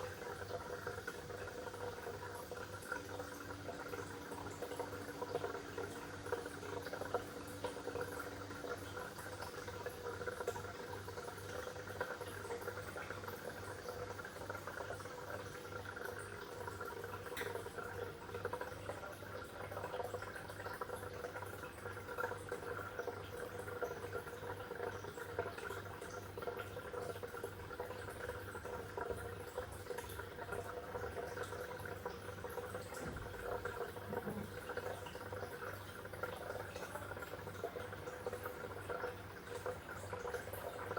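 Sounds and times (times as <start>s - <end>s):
aquarium water bubbling: 0.0s - 40.9s.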